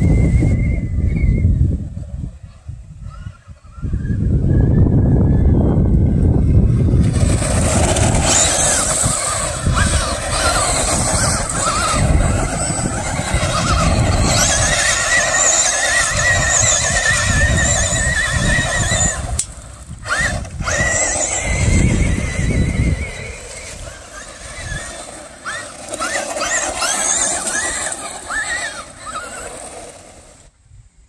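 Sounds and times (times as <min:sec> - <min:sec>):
electric motor whine: 0:00.0 - 0:30.6.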